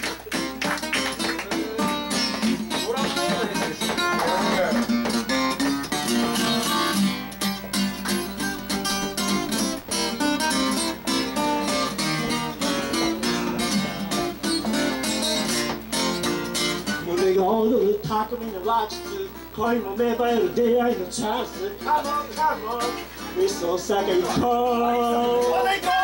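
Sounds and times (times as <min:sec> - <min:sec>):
acoustic guitar picking: 0:00.0 - 0:26.0.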